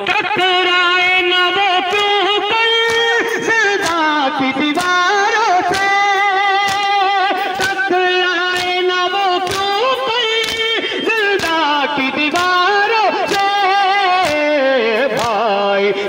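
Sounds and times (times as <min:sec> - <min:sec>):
man singing through a microphone: 0:00.0 - 0:16.0
people beating their chests: 0:00.0 - 0:16.0.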